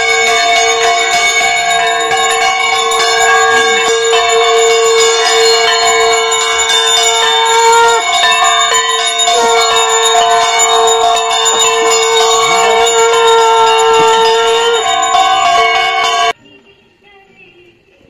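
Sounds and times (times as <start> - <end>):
bells ringing: 0.0 - 16.4.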